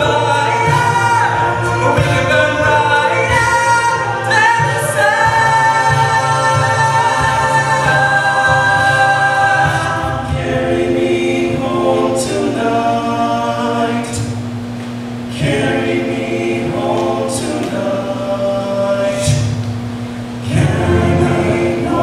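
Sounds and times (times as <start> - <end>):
male a cappella singing: 0.0 - 14.2, 15.4 - 19.5, 20.5 - 22.0.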